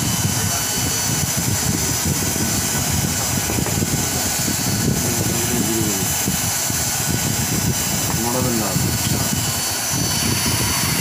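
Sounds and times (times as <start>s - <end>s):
welding machine whirring and whining: 0.0s - 11.0s.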